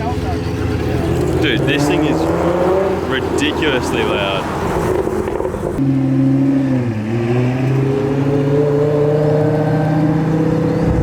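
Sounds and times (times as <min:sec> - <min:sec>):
car engine pulling away: 0:00.0 - 0:11.0.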